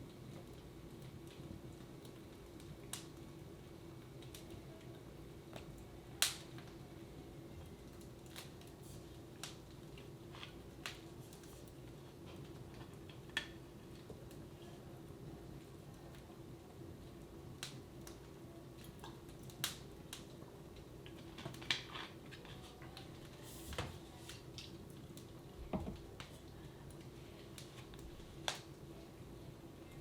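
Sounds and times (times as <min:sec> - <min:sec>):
low household hum: 0:00.0 - 0:30.0
wood fire crackling: 0:00.0 - 0:30.0.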